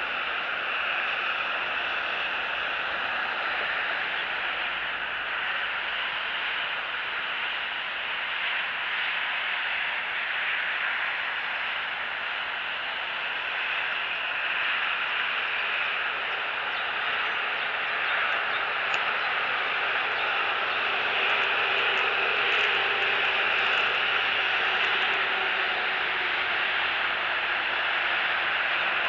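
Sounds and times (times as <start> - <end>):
steady static hiss: 0.0 - 29.0.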